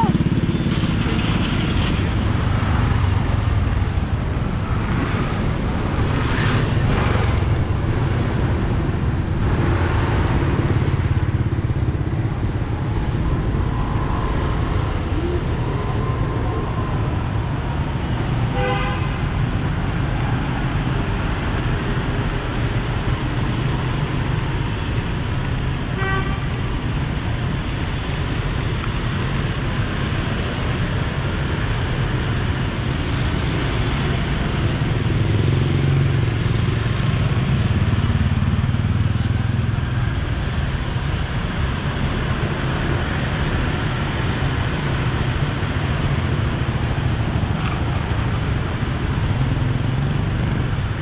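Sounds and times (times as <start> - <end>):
motorbikes and cars passing: 0.0 - 51.0.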